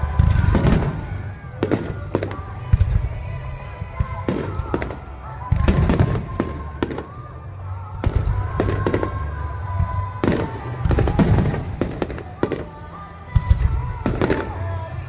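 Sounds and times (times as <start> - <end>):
fireworks bursting: 0.0 - 15.0
fireworks crackling: 0.0 - 15.0.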